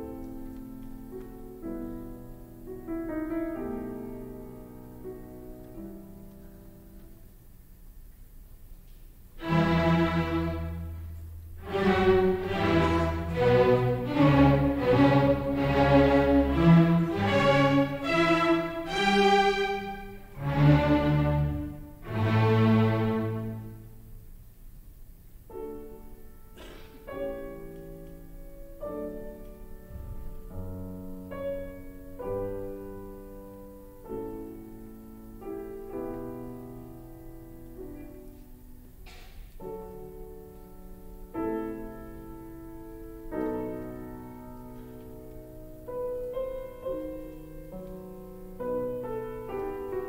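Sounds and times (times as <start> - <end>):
slow piano music: 0.0 - 50.0.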